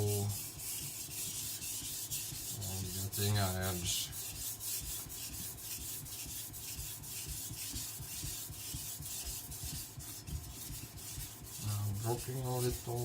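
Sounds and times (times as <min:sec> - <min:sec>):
cleaver scraping on whetstone: 0:00.0 - 0:13.0.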